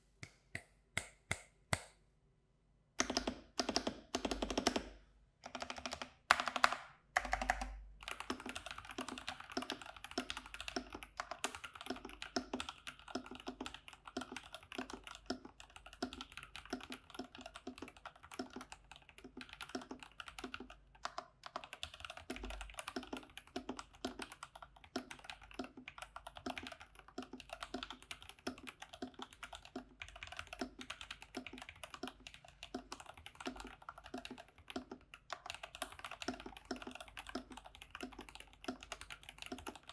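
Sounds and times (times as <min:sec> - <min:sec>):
mechanical keyboard typing: 0:03.0 - 0:39.9.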